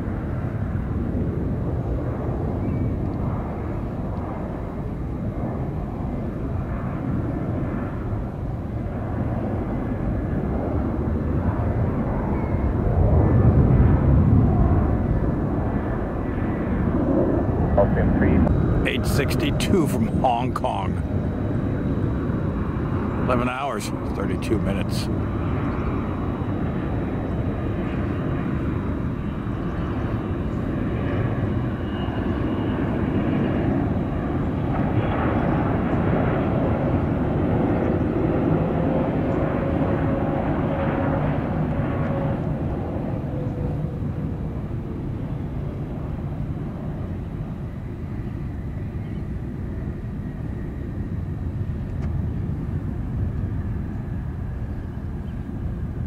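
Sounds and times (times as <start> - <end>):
jet engines rumbling with whine: 0.0 - 56.0.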